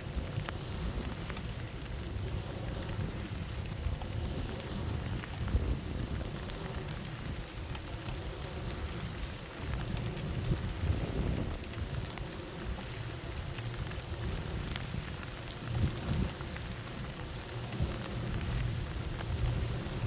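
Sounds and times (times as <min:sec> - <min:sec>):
low wind rumble: 0:00.0 - 0:20.0
rain falling: 0:00.0 - 0:20.0.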